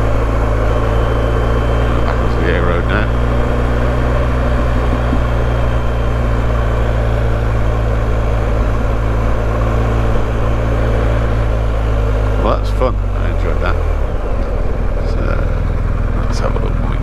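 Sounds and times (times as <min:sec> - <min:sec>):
motorcycle engine at steady speed: 0:00.0 - 0:17.0.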